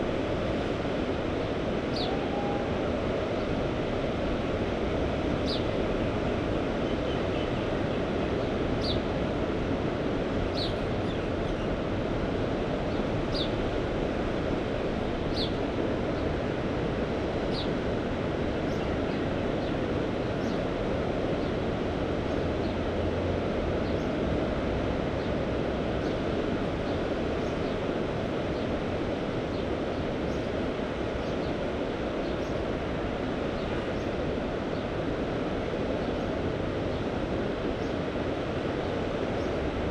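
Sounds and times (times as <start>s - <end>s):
sea surf and wind: 0.0s - 39.9s.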